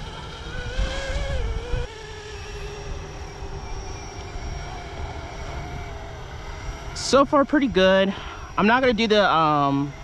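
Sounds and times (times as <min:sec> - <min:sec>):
rc helicopter rotor whine: 0:00.0 - 0:10.0.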